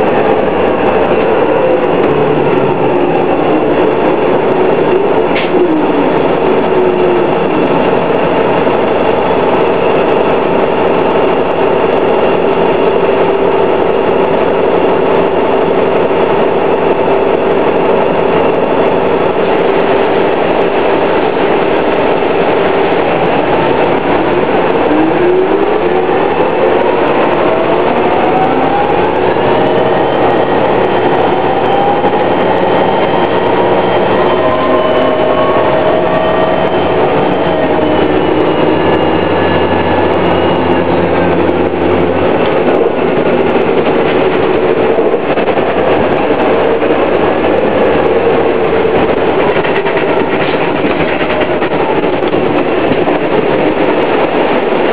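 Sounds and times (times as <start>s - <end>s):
bus drivetrain whine: 0.0s - 54.9s.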